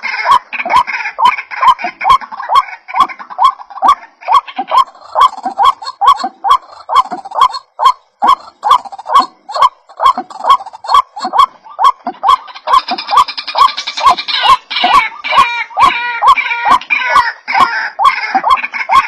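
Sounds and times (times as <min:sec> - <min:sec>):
bird croaking calls: 0:00.0 - 0:19.0
higher bird chatter: 0:00.0 - 0:19.0.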